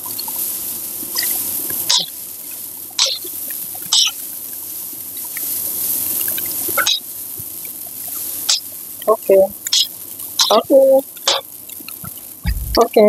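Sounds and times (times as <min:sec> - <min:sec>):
noodles sizzling in a wok: 0:00.0 - 0:12.4.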